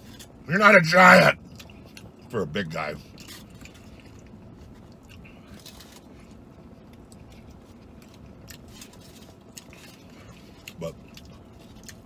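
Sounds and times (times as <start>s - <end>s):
man chewing food: 0.0s - 12.0s.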